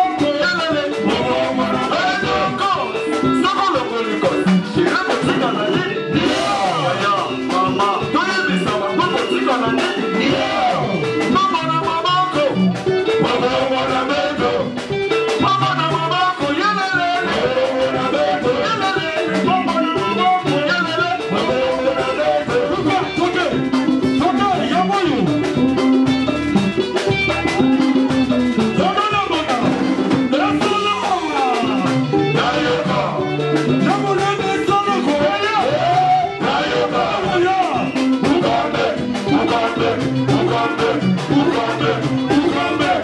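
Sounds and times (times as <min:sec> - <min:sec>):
dance band music through pa: 0:00.0 - 0:43.0
drums on a dance beat: 0:00.0 - 0:43.0
guitars: 0:00.0 - 0:43.0
voices singing: 0:00.0 - 0:43.0.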